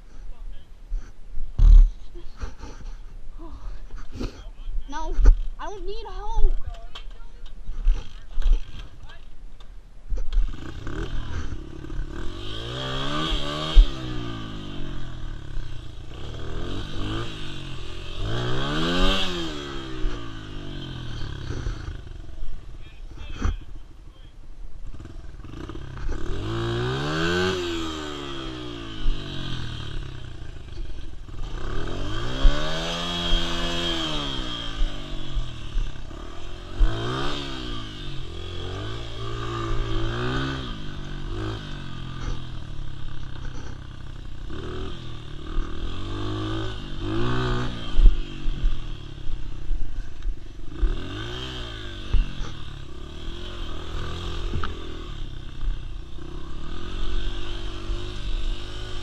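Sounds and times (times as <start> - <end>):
dirt bike engine revving: 7.7 - 9.2, 10.3 - 23.8, 24.8 - 59.0.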